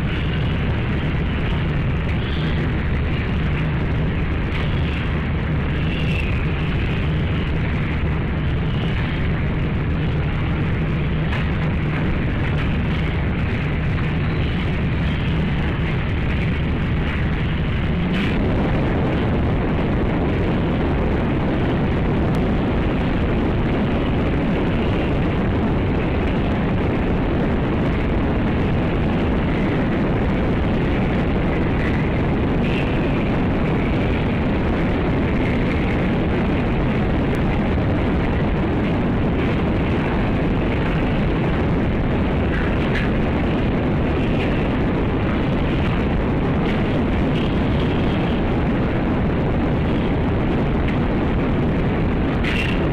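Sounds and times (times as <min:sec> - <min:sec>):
loud rumbling noise: 0:00.0 - 0:52.9.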